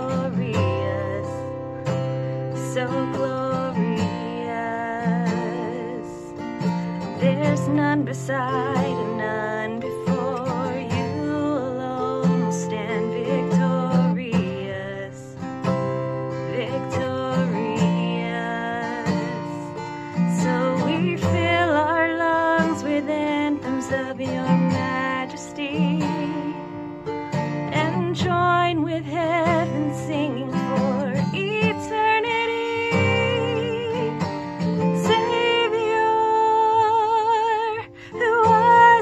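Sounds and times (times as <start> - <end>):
woman singing with vibrato: 0.0 - 26.8, 27.7 - 39.0
strummed acoustic guitar: 0.0 - 39.0.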